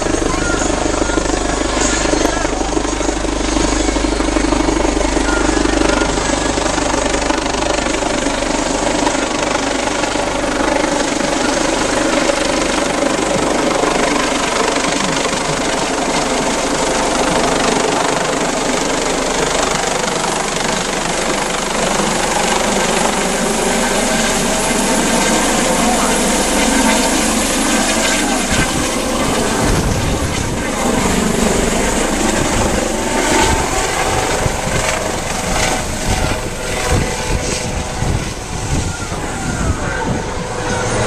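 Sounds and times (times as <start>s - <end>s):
helicopter engine and rotor: 0.0s - 41.0s.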